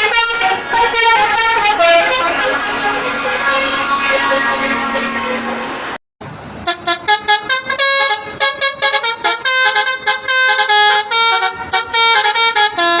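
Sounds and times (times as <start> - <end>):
musical air horn on bus: 0.0 - 6.0, 6.6 - 13.0.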